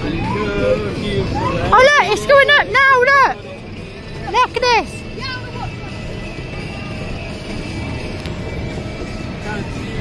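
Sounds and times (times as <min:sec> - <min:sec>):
background music: 0:00.0 - 0:10.0
small train rumbling on track: 0:00.0 - 0:10.0.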